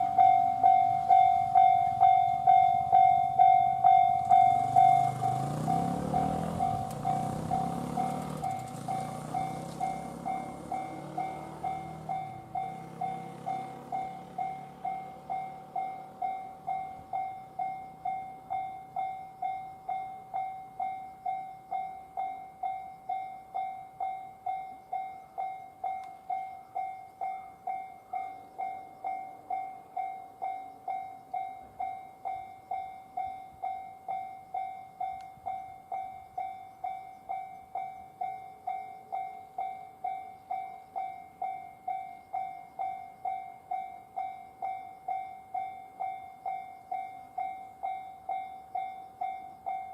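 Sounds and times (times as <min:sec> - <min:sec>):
level crossing warning bell: 0:00.0 - 0:49.9.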